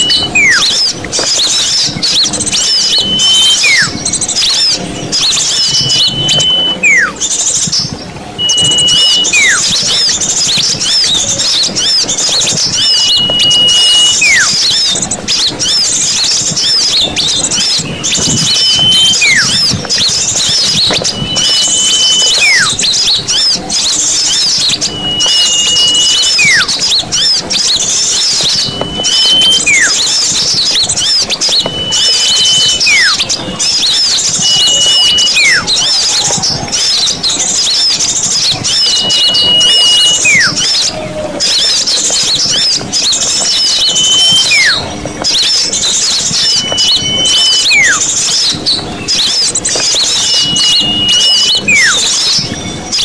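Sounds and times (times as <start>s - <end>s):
bird whistle dropping in pitch: 0.0s - 53.0s
small birds twittering: 0.0s - 53.0s.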